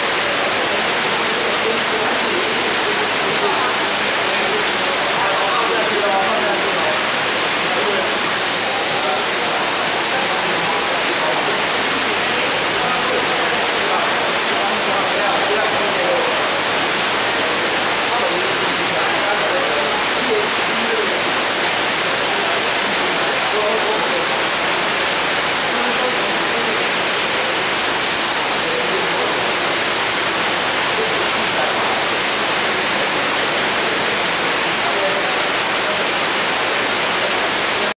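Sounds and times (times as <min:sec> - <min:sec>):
faint chatter: 0:00.0 - 0:38.0
faint murmur of voices: 0:00.0 - 0:38.0
water rushing in a tank: 0:00.0 - 0:38.0.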